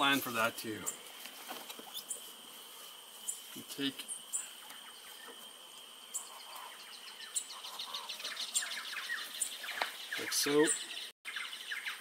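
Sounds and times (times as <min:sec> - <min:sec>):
birds chirping: 0:00.0 - 0:12.0
insect drone: 0:00.0 - 0:12.0.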